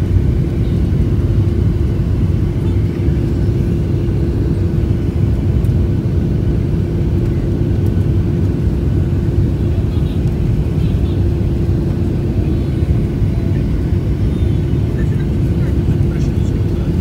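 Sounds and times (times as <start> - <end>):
airliner cabin engine rumble: 0.0 - 17.0
constant low hum: 0.0 - 17.0.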